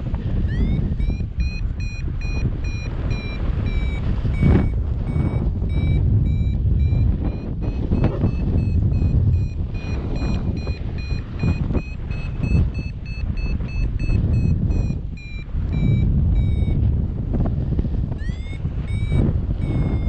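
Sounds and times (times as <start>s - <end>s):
wind rushing on microphone: 0.0s - 20.0s
variometer short high beeps: 0.4s - 16.8s, 18.1s - 20.0s.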